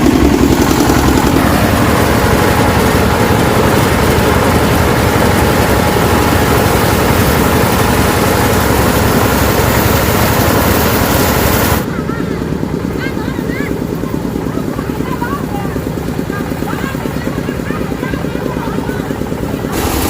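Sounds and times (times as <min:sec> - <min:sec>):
engine running loudly: 0:00.0 - 0:20.0.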